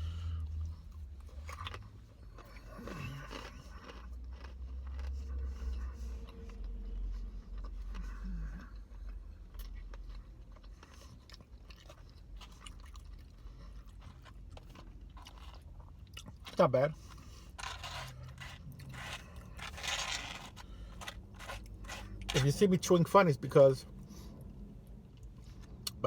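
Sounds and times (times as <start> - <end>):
chewing crispy fried chicken: 0.2 - 22.9.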